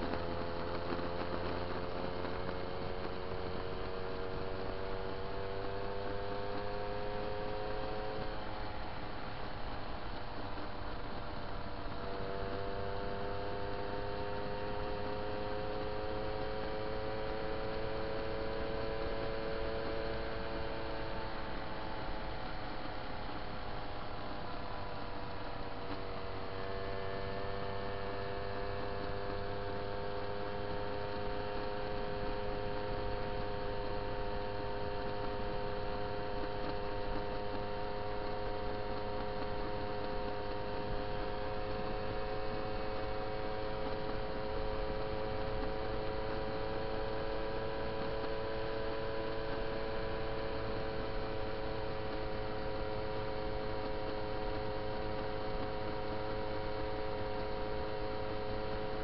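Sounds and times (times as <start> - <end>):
moped engine buzzing: 0.0 - 59.0
wind and road noise: 0.0 - 59.0.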